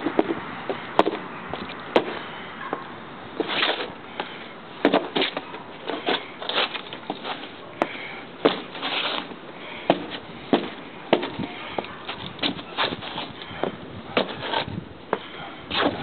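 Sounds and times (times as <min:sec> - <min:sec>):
boots stomping on concrete: 0:00.0 - 0:02.2, 0:03.4 - 0:16.0
boots scuffing: 0:00.0 - 0:02.8, 0:03.4 - 0:16.0.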